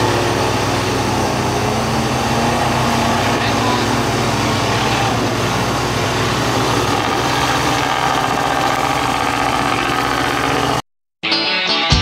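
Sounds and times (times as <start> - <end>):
truck engine running: 0.0 - 10.8.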